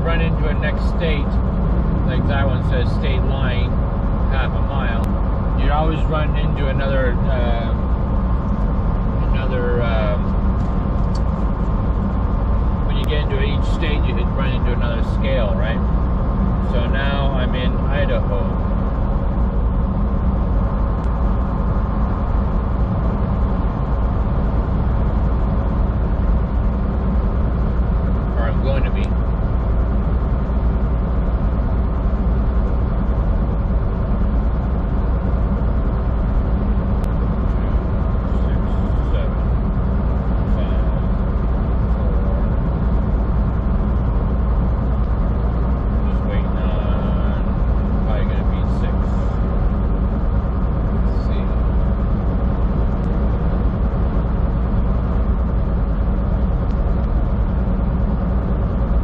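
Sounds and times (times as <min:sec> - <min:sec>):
diesel truck engine drone: 0:00.0 - 0:59.0
road noise: 0:00.0 - 0:59.0.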